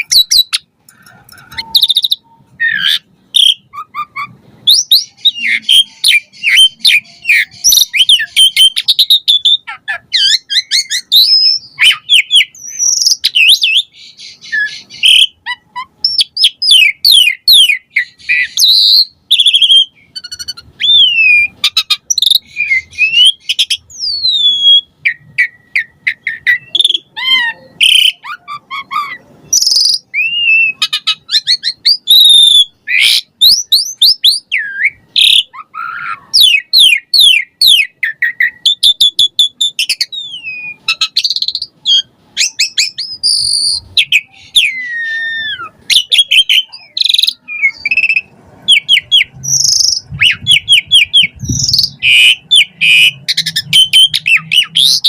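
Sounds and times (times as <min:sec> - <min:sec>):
starling singing varied song: 0:00.0 - 0:55.0.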